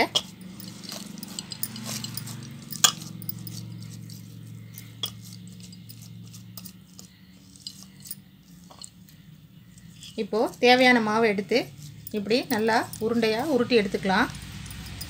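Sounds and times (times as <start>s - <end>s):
hands kneading dough: 0.0s - 15.0s
low steady hum: 0.0s - 15.0s.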